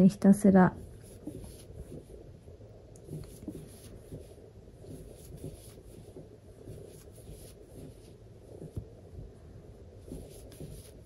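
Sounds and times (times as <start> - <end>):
yarn rustling on crochet hook: 0.6 - 2.4, 3.0 - 9.1, 10.0 - 11.0.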